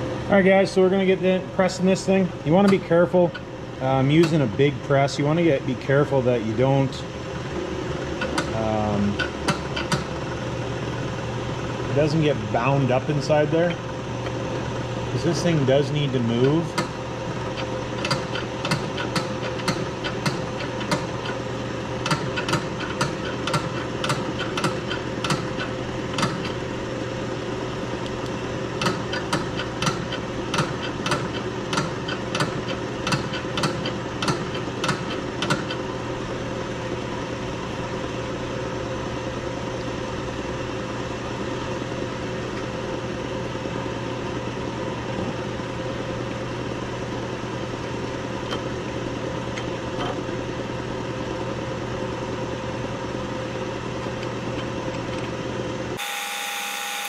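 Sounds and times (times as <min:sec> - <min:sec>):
hydraulic press machine hum: 0:00.0 - 0:57.0.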